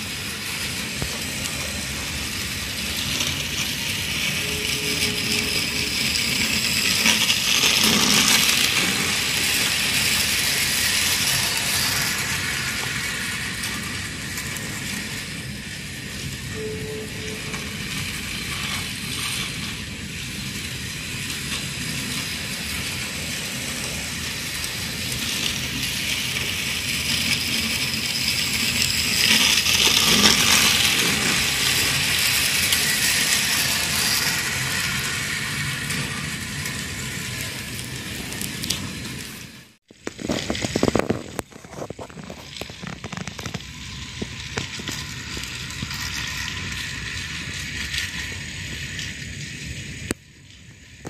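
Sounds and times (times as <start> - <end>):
toy train rolling on track: 0.0 - 51.0.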